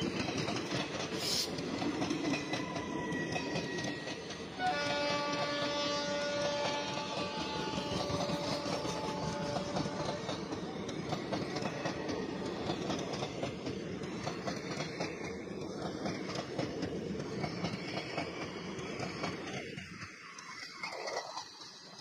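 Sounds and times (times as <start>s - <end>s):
train rumble: 0.0s - 22.0s
train wheels clattering over rail joints: 0.0s - 22.0s.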